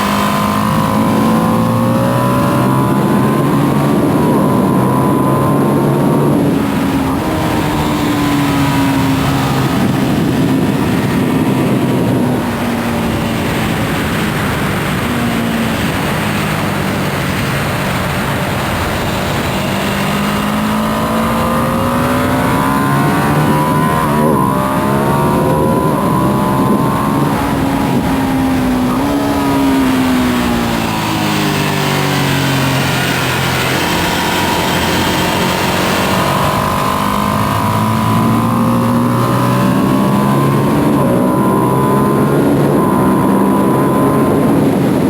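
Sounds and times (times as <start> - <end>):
motorcycle engine at speed: 0.0 - 45.0
wind noise: 0.0 - 45.0.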